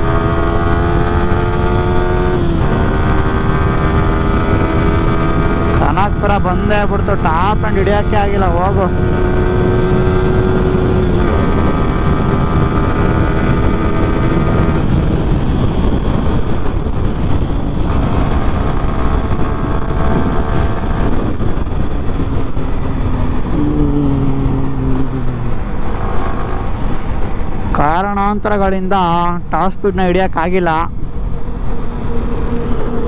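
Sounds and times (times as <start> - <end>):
motorcycle engine running: 0.0 - 27.8
wind rush on microphone: 0.0 - 33.0.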